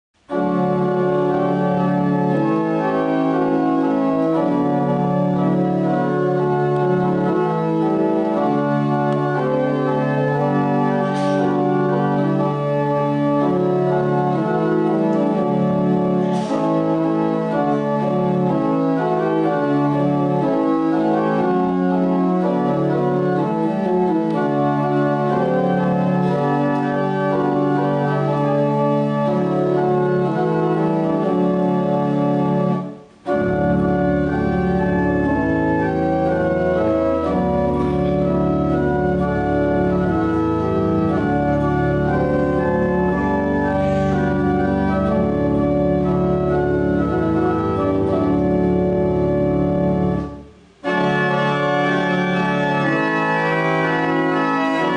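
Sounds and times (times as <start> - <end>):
church organ chords: 0.2 - 54.9.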